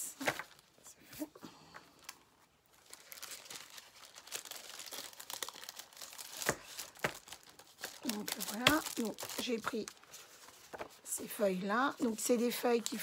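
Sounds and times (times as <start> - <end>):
paper rustling and crackling: 0.0 - 1.2, 2.0 - 13.0.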